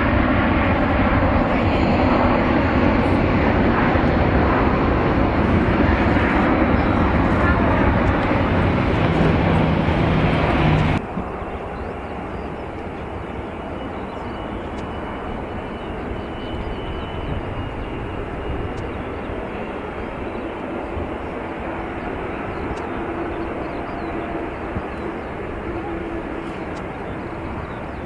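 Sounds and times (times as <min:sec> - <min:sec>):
loud airliner engine noise: 0:00.0 - 0:28.0.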